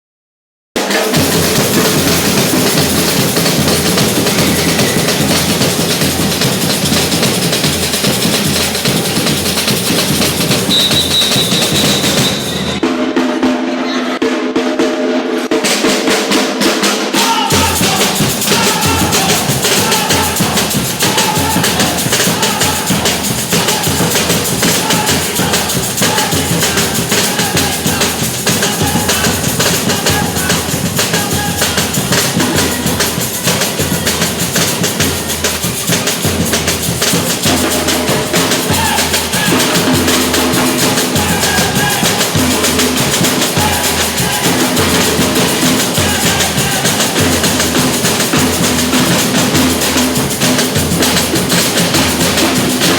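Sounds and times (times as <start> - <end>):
snare and small drums: 0.8 - 52.9
deep bass drums: 1.2 - 12.8, 17.5 - 52.9.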